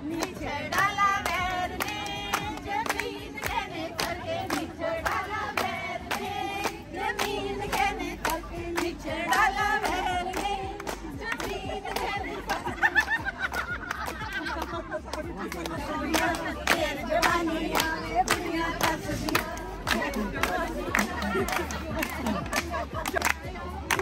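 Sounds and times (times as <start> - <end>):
crowd clapping rhythm: 0.0 - 24.0
women singing together: 0.0 - 24.0.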